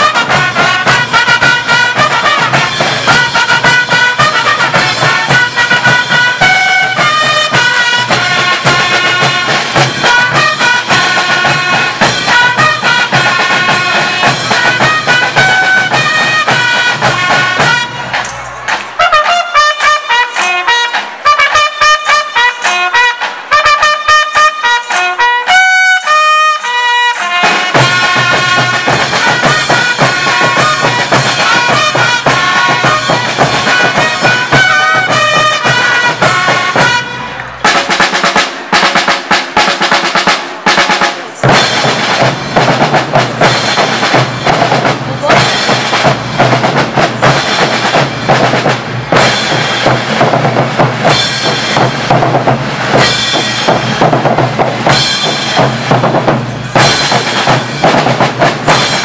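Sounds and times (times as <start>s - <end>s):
band drums: 0.0s - 59.0s
trumpets playing: 0.0s - 59.0s.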